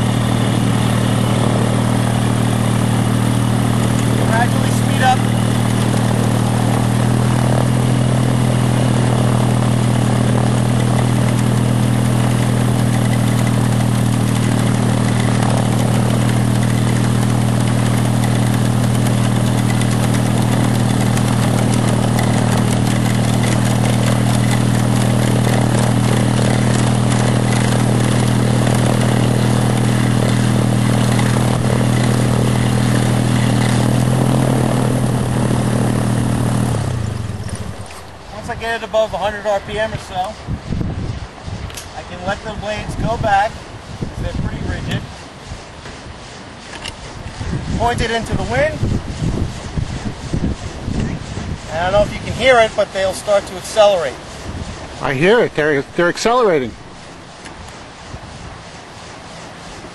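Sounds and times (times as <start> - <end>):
car engine running steadily: 0.0 - 59.9.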